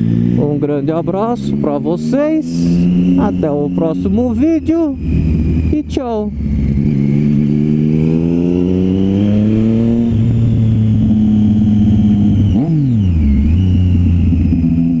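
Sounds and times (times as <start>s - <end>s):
motorcycle engine while riding: 0.0s - 15.0s.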